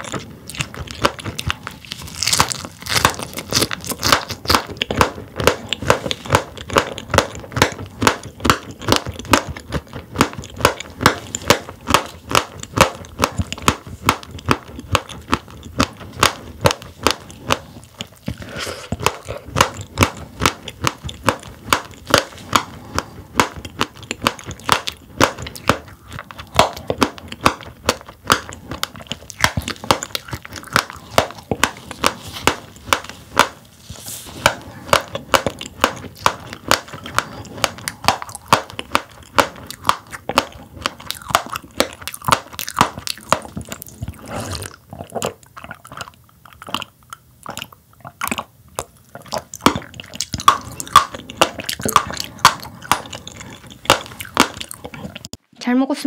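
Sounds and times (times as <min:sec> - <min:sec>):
fish roe crunching while chewing: 0:00.0 - 0:55.4.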